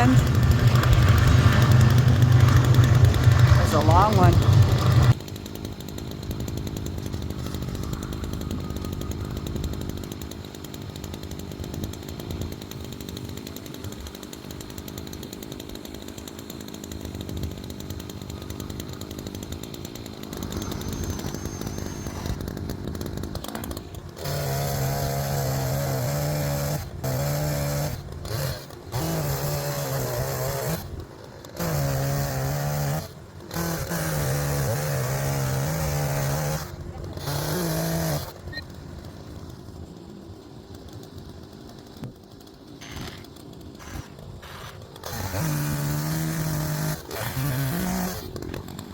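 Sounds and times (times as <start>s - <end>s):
chainsaw cutting logs: 0.0s - 48.9s.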